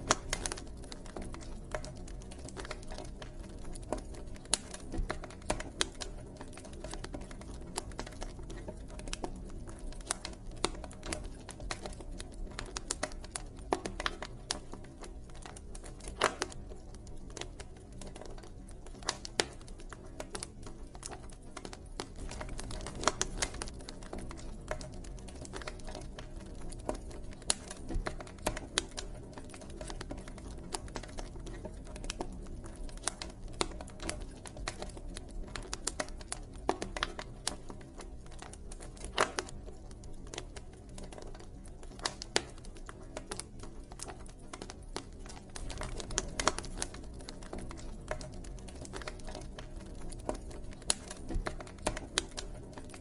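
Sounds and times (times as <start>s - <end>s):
campfire wood crackling and popping: 0.0s - 53.0s
low rumble of flames: 0.0s - 53.0s.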